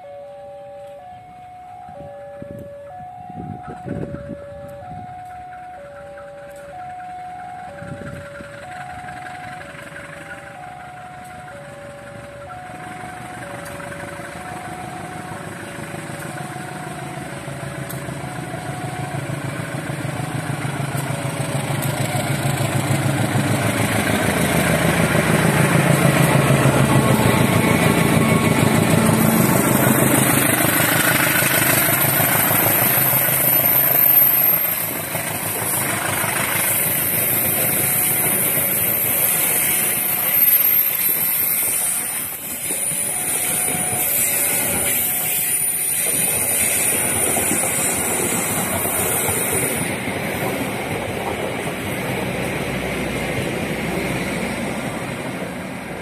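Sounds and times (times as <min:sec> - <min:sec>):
level crossing warning bell: 0:00.0 - 0:52.2
diesel locomotive engine rumble: 0:00.0 - 0:56.0.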